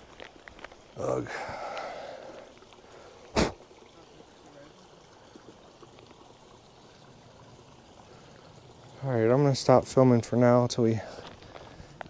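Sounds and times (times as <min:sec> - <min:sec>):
creek trickling: 0:00.0 - 0:12.0.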